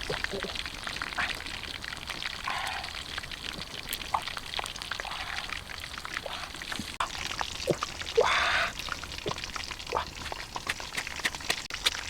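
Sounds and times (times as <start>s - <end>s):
small clicks and drips: 0.0s - 12.0s
water pouring and splashing: 0.0s - 12.0s.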